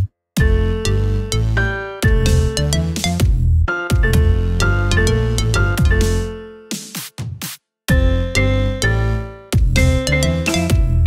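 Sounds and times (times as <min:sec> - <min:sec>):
steady bass line: 0:00.4 - 0:06.5, 0:07.9 - 0:11.0
cheerful electronic tune: 0:00.4 - 0:07.0, 0:07.9 - 0:11.0
synthesizer and piano notes: 0:00.4 - 0:07.0, 0:08.0 - 0:11.0.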